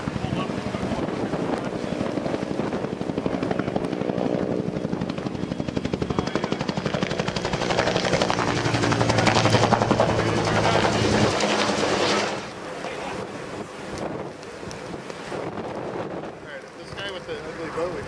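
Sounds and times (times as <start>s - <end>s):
helicopter rotor chopping: 0.0s - 18.0s.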